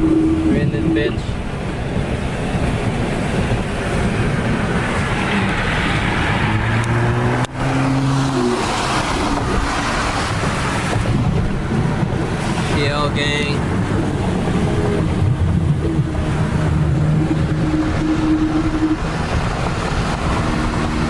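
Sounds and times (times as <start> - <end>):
car exhaust droning: 0.0 - 21.0
wind and road noise: 0.0 - 21.0.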